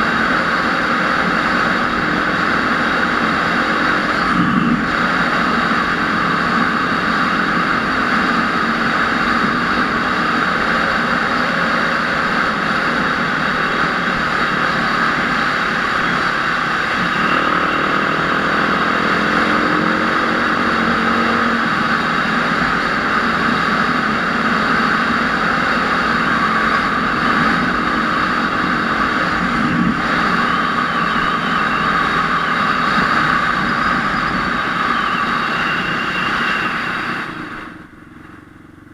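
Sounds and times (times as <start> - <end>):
motorcycle engine running: 0.0 - 38.9
rush of noise: 0.0 - 38.9.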